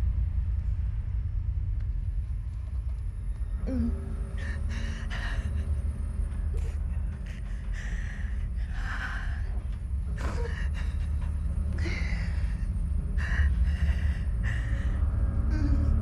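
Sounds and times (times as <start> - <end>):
low rumbling drone: 0.0 - 16.0.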